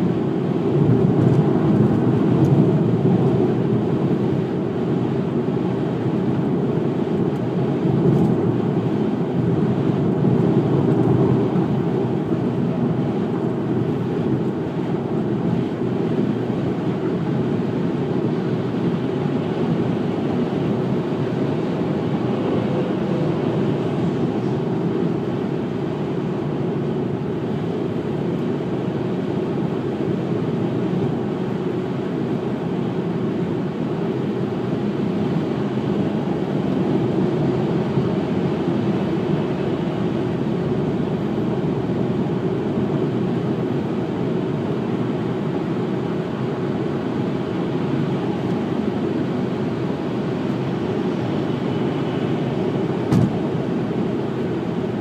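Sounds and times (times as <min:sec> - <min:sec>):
car driving at highway speed: 0:00.0 - 0:55.0.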